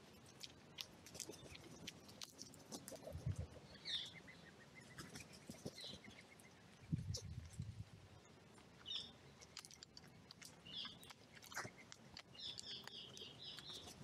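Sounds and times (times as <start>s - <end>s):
crows pecking at nuts: 0.0s - 14.0s
songbirds chirping: 0.0s - 14.0s.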